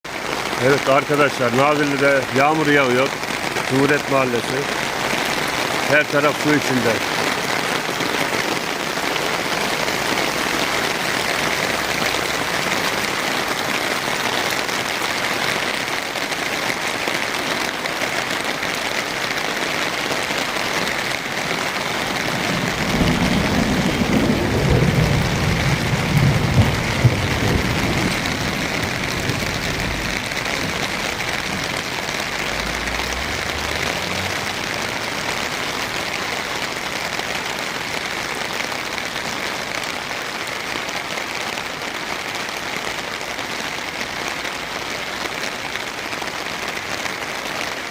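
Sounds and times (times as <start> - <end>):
heavy rain splashing: 0.0 - 47.9.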